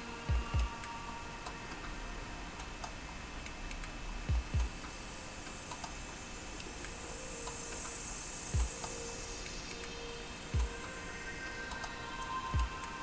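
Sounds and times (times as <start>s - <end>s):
faint light ticking: 0.0s - 13.0s.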